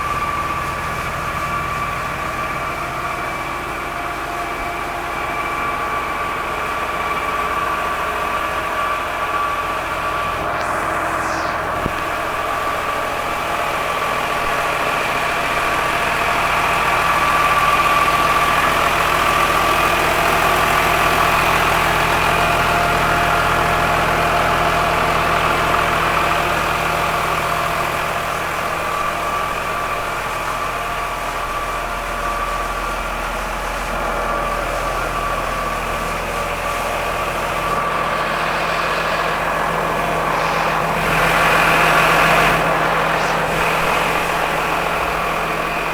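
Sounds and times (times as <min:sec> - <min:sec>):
tractor diesel engine idling: 0:00.0 - 0:10.6, 0:12.5 - 0:45.9.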